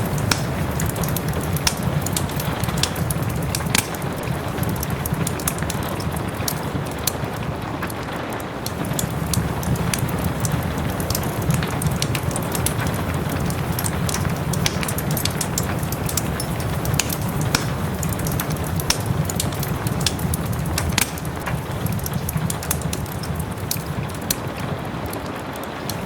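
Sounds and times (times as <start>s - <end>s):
rain: 0.0s - 26.0s
wood fire crackling and popping: 0.0s - 26.0s.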